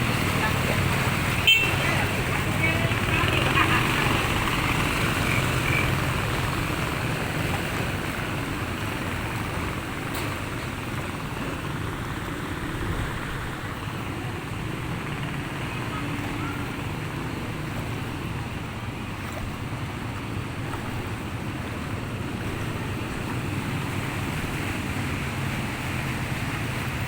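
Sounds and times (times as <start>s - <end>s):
engine hum: 0.0s - 27.0s
water noise: 0.0s - 27.0s.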